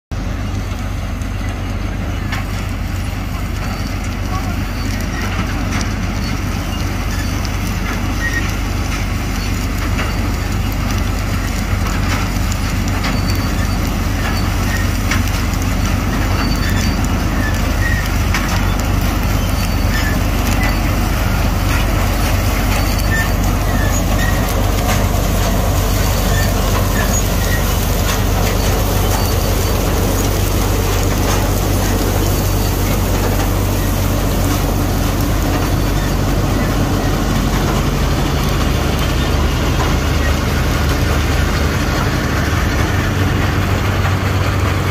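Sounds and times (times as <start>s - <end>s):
combine harvester droning: 0.1s - 44.9s.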